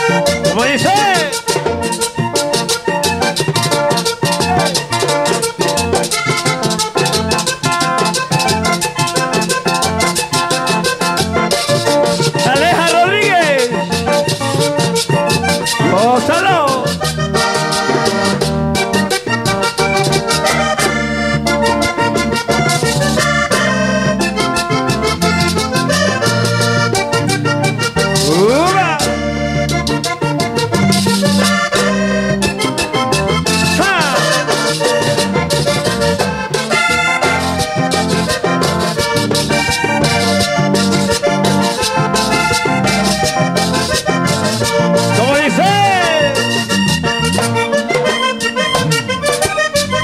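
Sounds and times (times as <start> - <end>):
button accordion: 0.0 - 50.0
electric bass: 0.0 - 50.0
hand drum percussion: 0.0 - 50.0.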